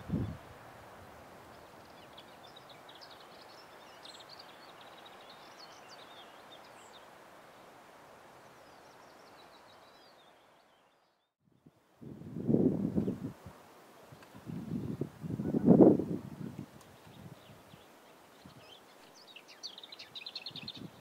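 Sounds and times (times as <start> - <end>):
outdoor hiss: 0.0 - 11.1, 11.7 - 21.0.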